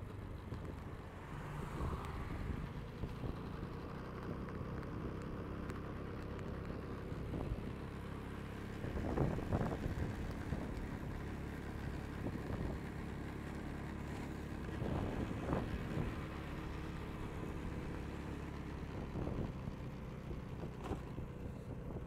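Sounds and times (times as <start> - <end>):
car engine and tyre hum: 0.0 - 22.0.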